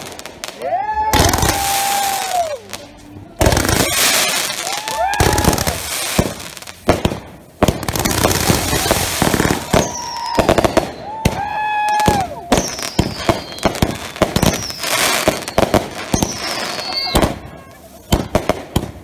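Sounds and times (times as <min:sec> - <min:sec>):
firework bangs and crackling: 0:00.0 - 0:19.0.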